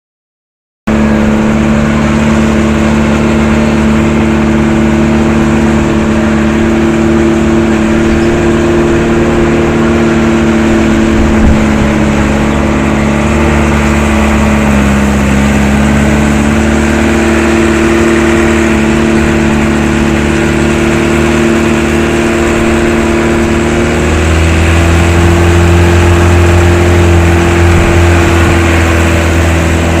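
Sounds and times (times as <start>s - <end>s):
truck engine running: 0.9s - 30.0s.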